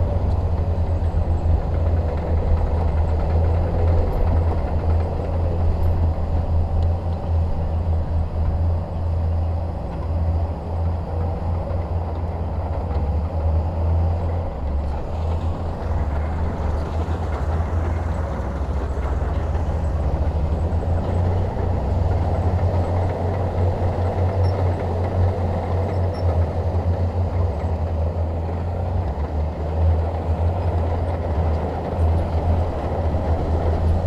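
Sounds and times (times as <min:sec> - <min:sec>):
diesel engine humming: 0:00.0 - 0:34.0.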